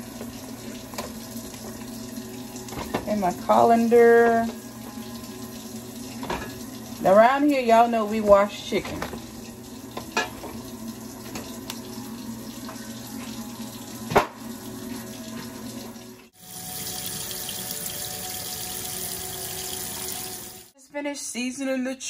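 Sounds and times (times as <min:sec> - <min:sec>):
tap water running into sink: 0:00.0 - 0:20.7.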